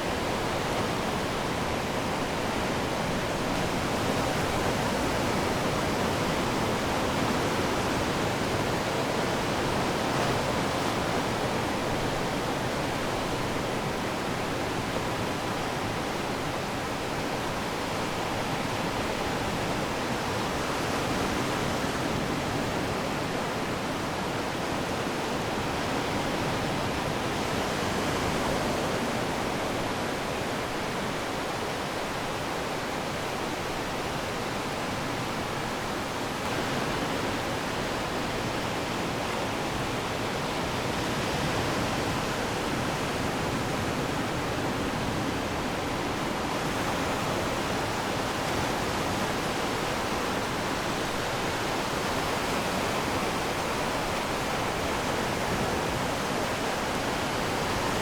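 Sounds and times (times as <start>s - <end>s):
ocean waves washing on shore: 0.0s - 58.0s.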